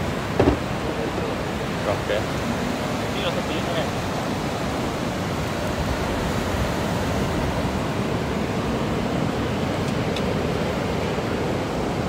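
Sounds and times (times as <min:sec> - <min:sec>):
sea surf rushing: 0:00.0 - 0:12.0.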